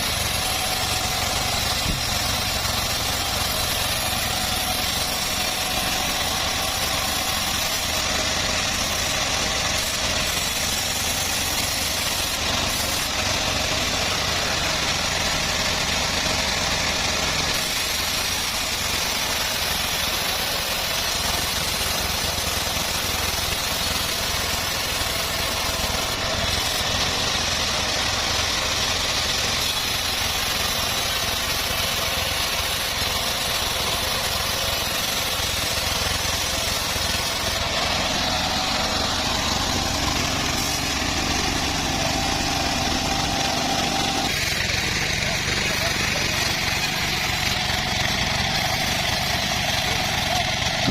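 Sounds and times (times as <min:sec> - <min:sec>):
saw hissing: 0:00.0 - 0:50.9
sawmill engine hum: 0:00.0 - 0:50.9.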